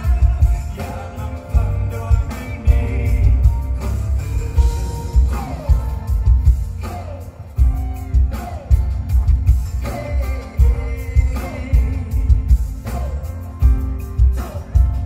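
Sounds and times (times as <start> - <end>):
heavy steady bass beat: 0.0 - 15.0
male singer singing: 0.0 - 15.0.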